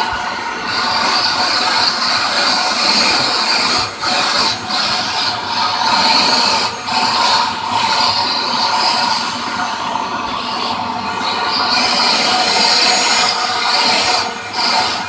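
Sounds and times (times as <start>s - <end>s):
vacuum cleaner hissing: 0.0s - 15.0s.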